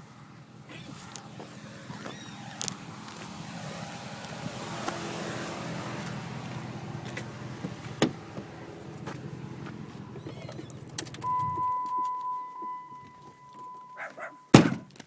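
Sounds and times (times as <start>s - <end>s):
vehicle engine running: 0.0s - 14.5s.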